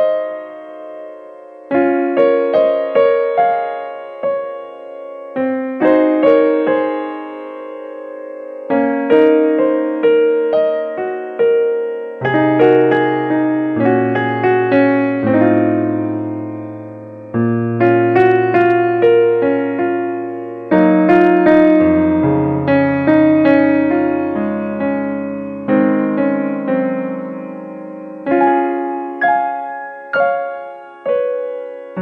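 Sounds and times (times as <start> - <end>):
piano melody over chords: 0.0 - 32.0.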